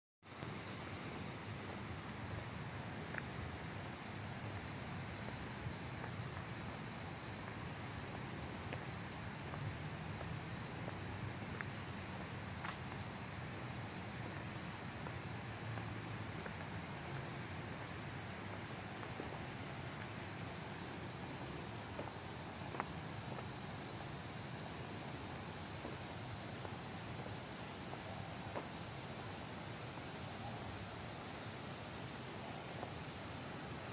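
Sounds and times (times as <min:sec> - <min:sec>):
insects trilling: 0:00.2 - 0:33.9.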